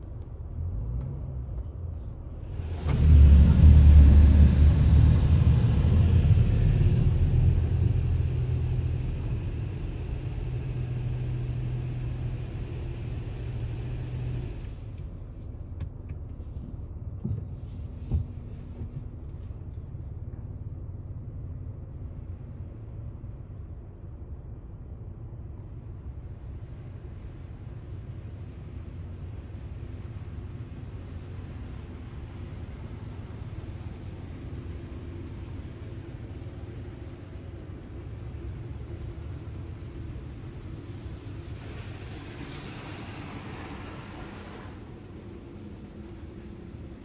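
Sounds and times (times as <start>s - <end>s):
car wash machinery rumble and hiss: 0.0s - 47.0s
low hum: 0.0s - 47.0s.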